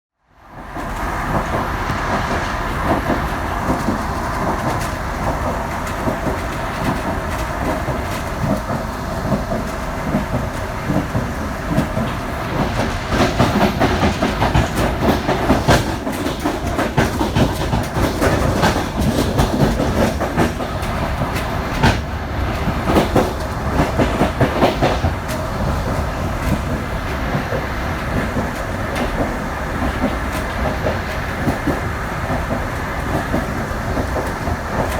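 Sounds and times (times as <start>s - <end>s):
train rumbling along track: 0.2s - 34.9s
wheels clacking over rail joints: 0.5s - 34.9s.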